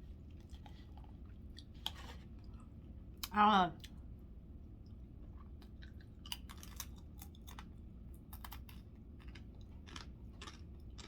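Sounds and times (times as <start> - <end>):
person chewing food: 0.0 - 4.2, 4.8 - 11.0.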